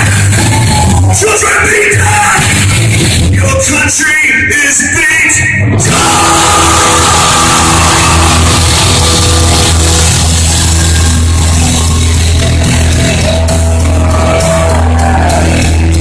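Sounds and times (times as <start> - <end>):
rock band playing live: 0.0 - 3.6, 5.7 - 16.0
heavy bass: 0.0 - 16.0.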